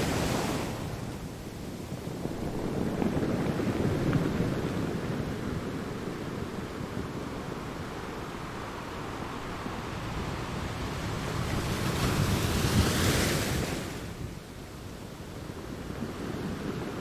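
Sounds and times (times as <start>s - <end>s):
sea surf: 0.0s - 17.0s.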